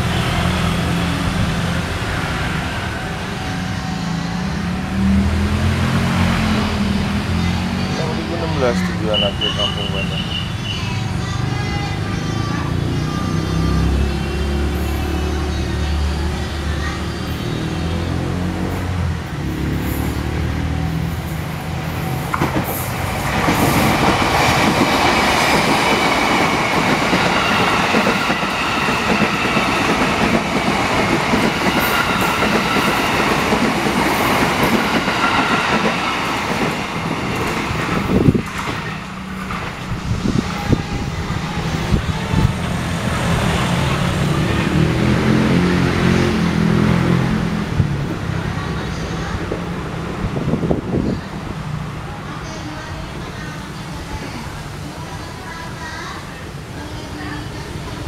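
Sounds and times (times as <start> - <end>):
electric train passing: 0.0 - 58.0.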